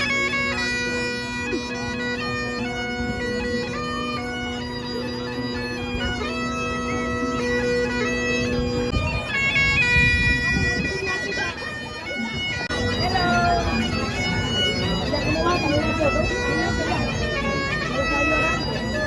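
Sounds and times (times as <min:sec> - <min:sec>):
bagpipe drone: 0:00.0 - 0:19.0
bagpipes playing a tune: 0:00.0 - 0:19.0.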